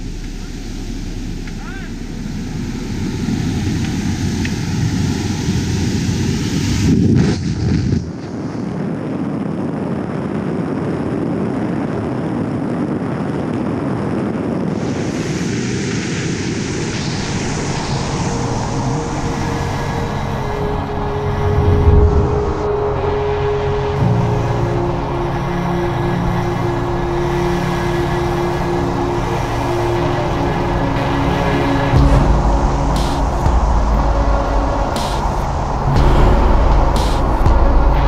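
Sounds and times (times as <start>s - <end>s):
propeller airplane engine drone: 0.0s - 7.1s, 14.6s - 38.0s
rushing air: 0.0s - 38.0s.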